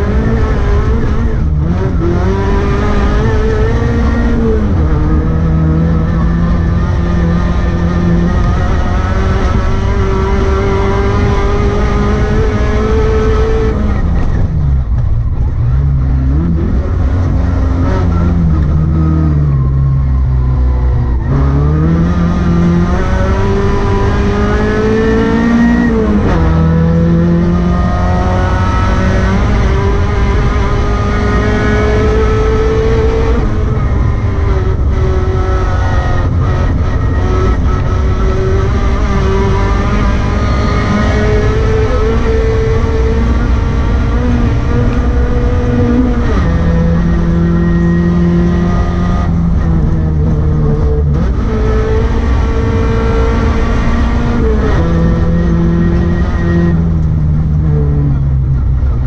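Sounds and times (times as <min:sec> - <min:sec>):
rally car engine revving: 0:00.0 - 0:59.0
road noise: 0:00.0 - 0:59.0.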